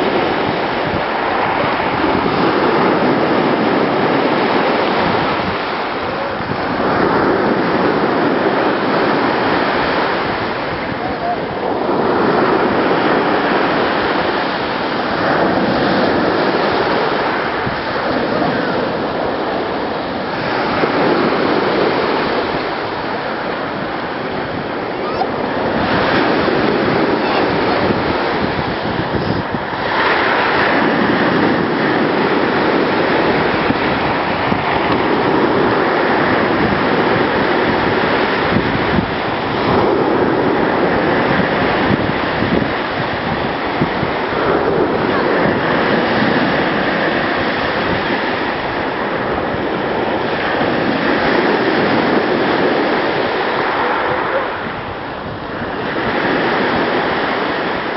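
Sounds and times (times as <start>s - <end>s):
sea surf washing ashore: 0.0s - 57.9s
wind buffeting microphone: 0.0s - 57.9s.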